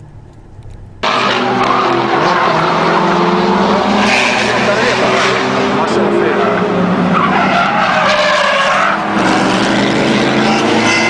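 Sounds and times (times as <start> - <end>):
tyres squealing in a skid: 1.0 - 11.0.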